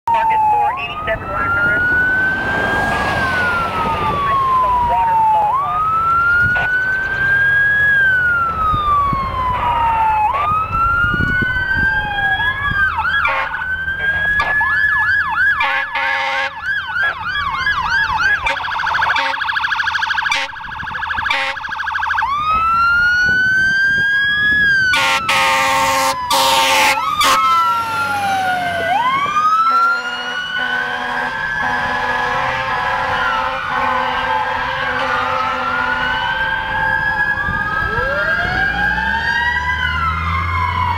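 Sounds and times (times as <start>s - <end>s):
fire engine siren: 0.0s - 40.9s
road noise: 0.0s - 40.9s
truck engine: 0.0s - 40.9s.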